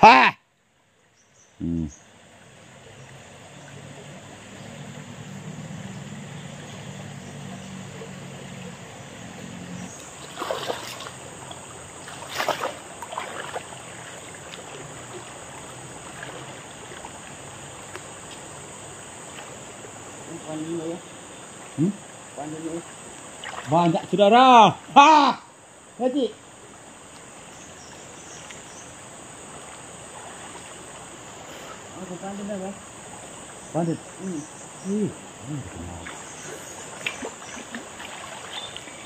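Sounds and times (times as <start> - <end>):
running water rushing: 1.9 - 39.0
water splashing: 2.2 - 25.0, 25.8 - 39.0.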